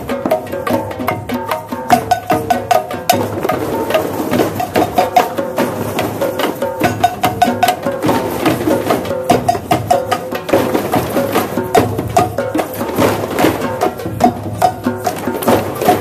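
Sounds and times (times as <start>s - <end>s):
drum circle playing: 0.0s - 16.0s.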